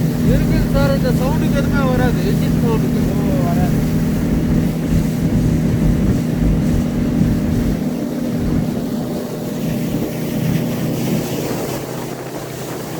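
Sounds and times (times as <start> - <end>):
speedboat engine droning: 0.0 - 12.9.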